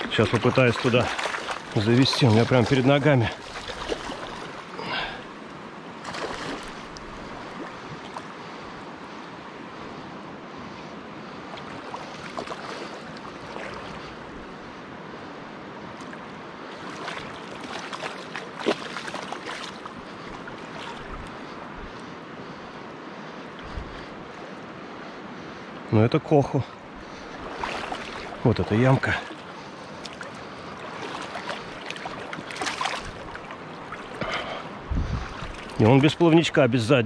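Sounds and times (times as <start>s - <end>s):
shallow river running: 0.0s - 37.0s.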